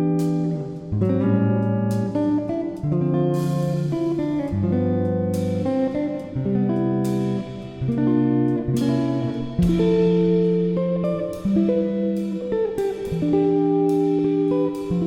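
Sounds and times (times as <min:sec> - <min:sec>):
guitar playing chords: 0:00.0 - 0:15.0.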